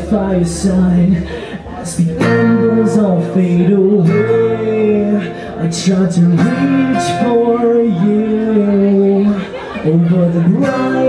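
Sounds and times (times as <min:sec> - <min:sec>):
acoustic guitar: 0:00.0 - 0:11.0
man singing long notes: 0:00.0 - 0:11.0.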